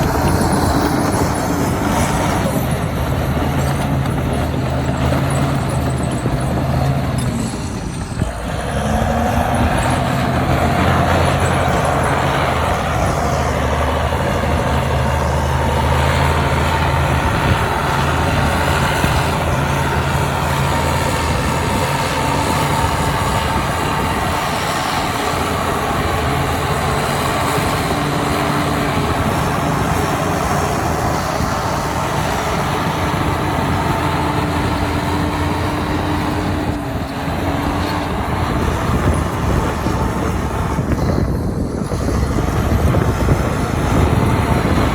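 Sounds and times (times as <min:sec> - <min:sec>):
heavy diesel engine under load: 0:00.0 - 0:44.9.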